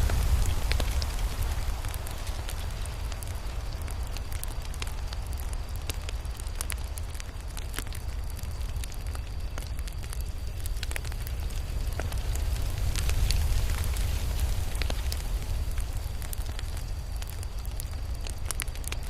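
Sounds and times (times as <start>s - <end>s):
burning wood crackling and popping: 0.0s - 19.0s
campfire burning: 0.0s - 19.0s.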